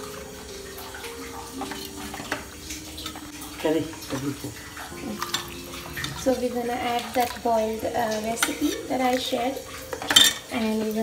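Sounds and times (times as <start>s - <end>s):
utensils clinking: 0.0s - 11.0s
water running: 0.0s - 11.0s.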